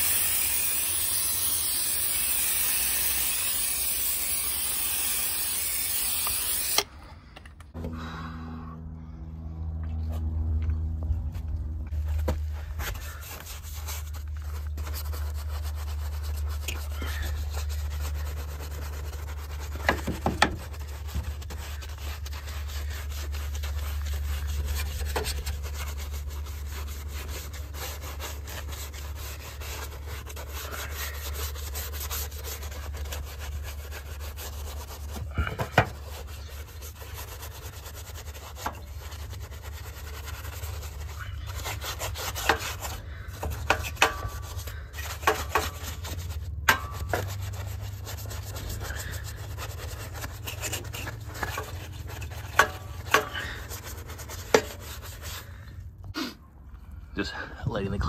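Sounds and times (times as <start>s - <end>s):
brush scrubbing metal: 0.0s - 6.8s, 11.9s - 55.6s.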